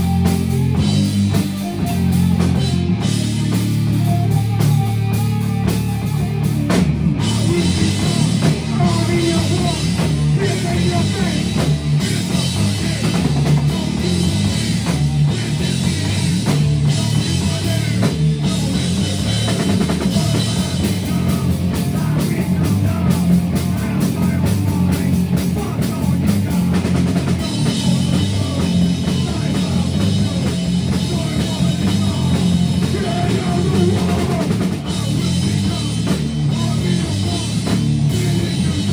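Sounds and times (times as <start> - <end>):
bass guitar: 0.0 - 38.9
drum kit: 0.0 - 38.9
electric guitars: 0.0 - 38.9
person singing: 7.2 - 38.9.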